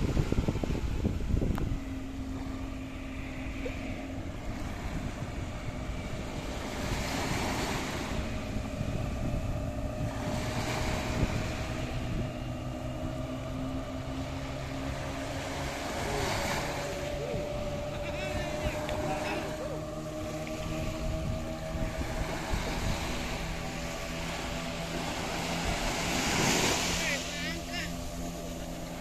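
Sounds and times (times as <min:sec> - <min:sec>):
distant outboard motor humming: 0:00.0 - 0:29.0
small waves washing ashore: 0:00.0 - 0:29.0.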